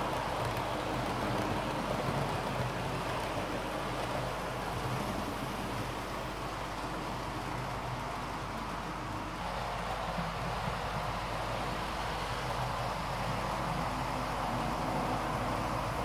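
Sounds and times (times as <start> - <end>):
model train wheels rolling on track: 0.0 - 16.0.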